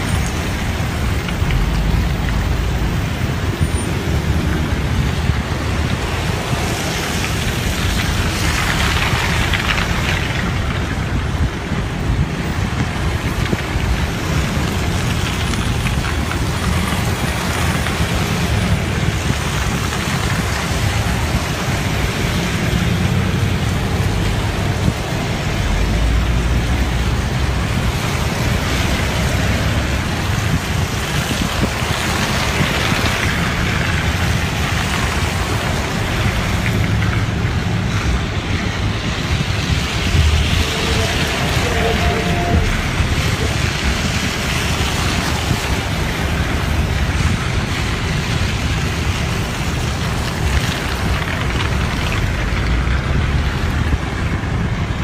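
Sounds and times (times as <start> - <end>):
rain: 0.0 - 55.0
vehicles passing on wet road: 0.0 - 55.0
wind noise on microphone: 0.0 - 55.0.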